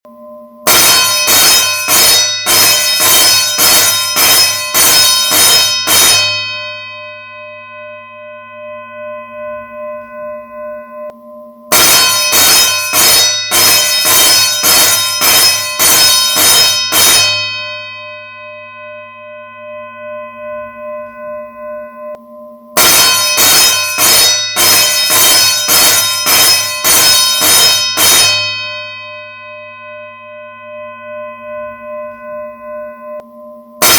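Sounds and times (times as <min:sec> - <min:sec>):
school bell ringing: 0:00.7 - 0:10.9, 0:11.7 - 0:22.0, 0:22.8 - 0:33.2.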